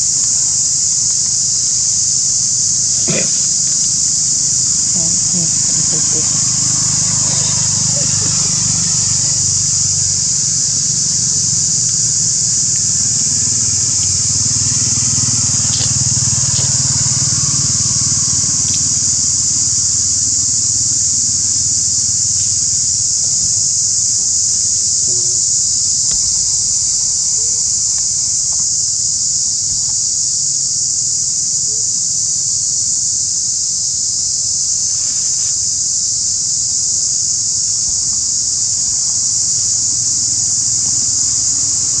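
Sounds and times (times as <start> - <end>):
high-pitched insect drone: 0.0 - 42.0.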